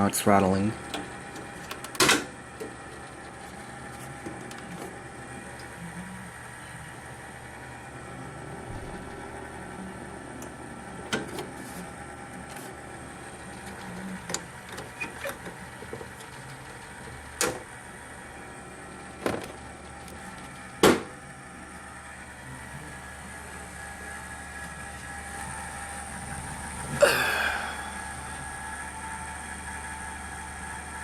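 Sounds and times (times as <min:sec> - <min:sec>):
computer fans humming: 0:00.0 - 0:31.0.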